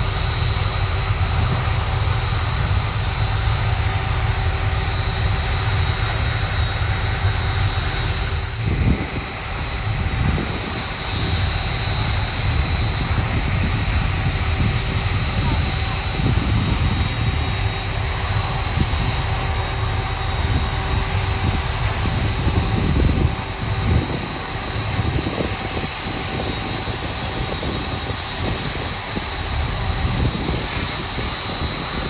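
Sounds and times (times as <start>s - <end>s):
jet turbine whine idling: 0.0s - 32.0s
wind rumble on microphone: 0.0s - 32.0s.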